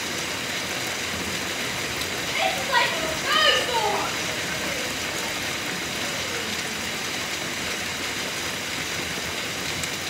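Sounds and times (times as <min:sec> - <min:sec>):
hail and rain pelting down: 0:00.0 - 0:10.0.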